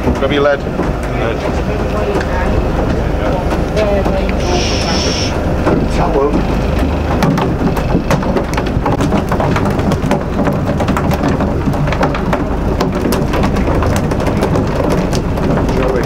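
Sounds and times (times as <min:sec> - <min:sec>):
constant low rumble: 0:00.0 - 0:16.0
dense steady crackling noise: 0:00.0 - 0:16.0.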